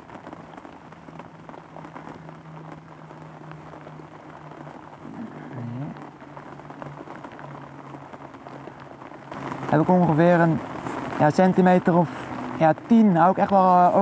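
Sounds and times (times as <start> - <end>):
low hum: 0.0 - 14.0
rain pattering: 0.0 - 14.0.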